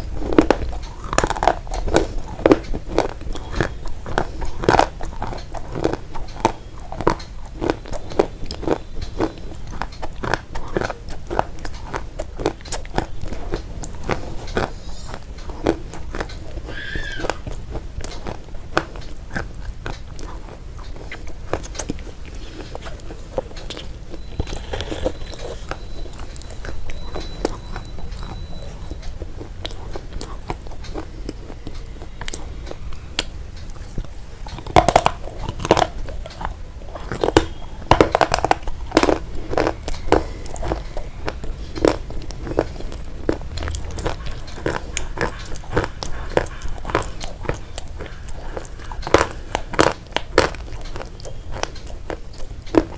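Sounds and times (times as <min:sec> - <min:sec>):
crunchy food being chewed: 0:00.0 - 0:52.9.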